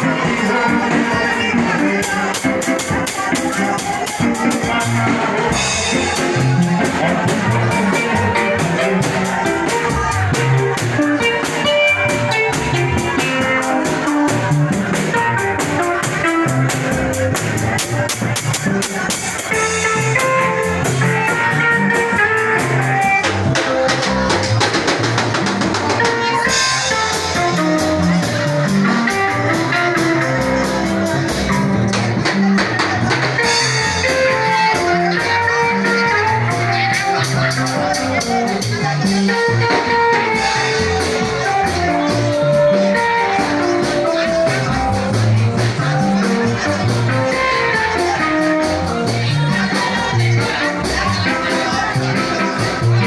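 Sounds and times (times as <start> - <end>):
band music: 0.0 - 53.0
drum kit steady beat: 0.0 - 53.0
guitar: 0.0 - 53.0.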